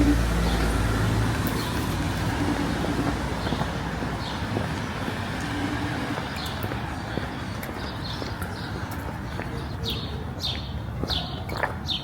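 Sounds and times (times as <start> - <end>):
passing vehicle engine rumble: 0.0 - 10.3
steady road noise: 0.0 - 12.0.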